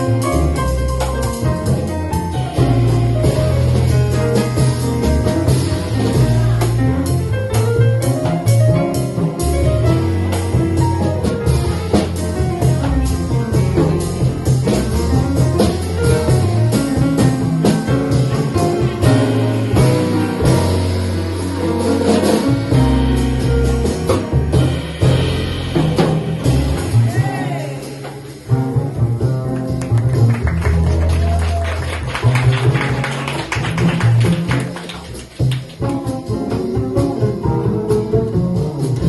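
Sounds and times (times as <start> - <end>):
double bass: 0.0 - 39.0
drums and cymbals: 0.0 - 39.0
piano: 0.0 - 39.0.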